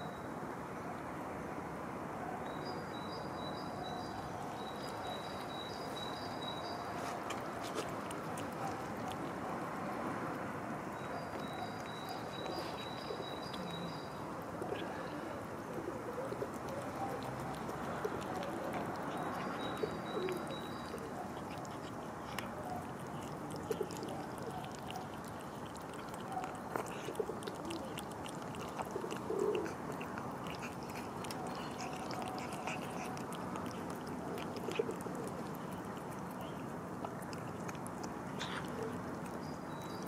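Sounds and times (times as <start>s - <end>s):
steady background noise: 0.0s - 40.0s
cats crunching food: 4.4s - 40.0s.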